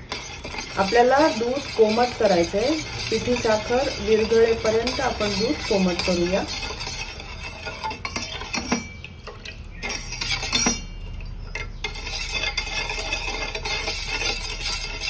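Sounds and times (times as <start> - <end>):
spoon stirring in metal pan: 0.0 - 15.0.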